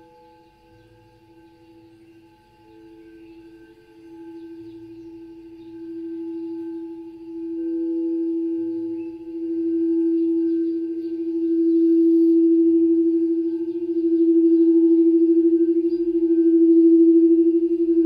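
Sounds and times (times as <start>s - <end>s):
higher singing bowl tones humming: 0.0s - 18.0s
low singing bowl tone wavering: 0.0s - 18.0s.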